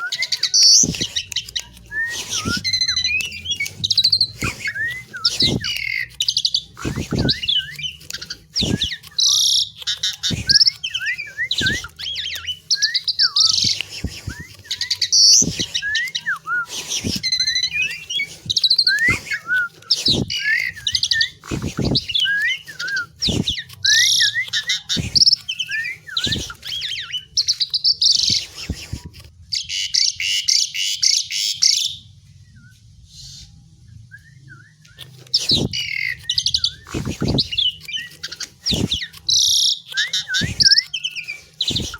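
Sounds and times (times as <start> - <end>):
bird buzzy chatter: 0.0 - 32.0, 34.8 - 41.9
bird whistled song: 0.0 - 41.9.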